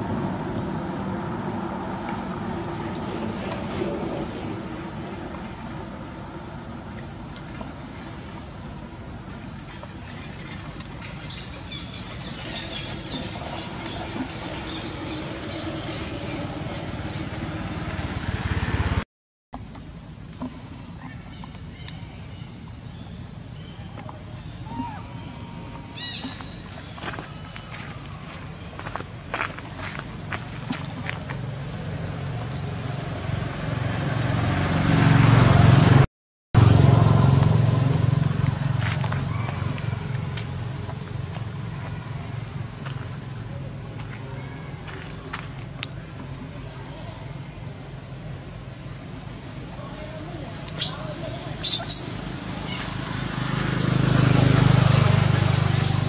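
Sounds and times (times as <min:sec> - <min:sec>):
vehicle engine rumbling: 0:00.0 - 0:19.0, 0:19.6 - 0:56.0.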